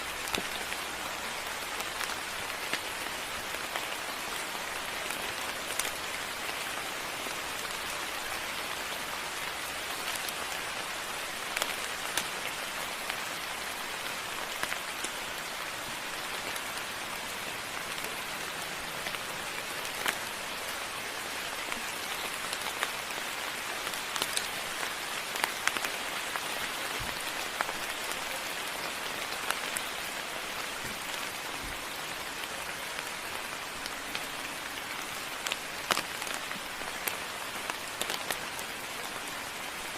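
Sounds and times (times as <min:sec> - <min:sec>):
rain falling: 0:00.0 - 0:39.9
raindrops ticking close by: 0:00.0 - 0:39.9.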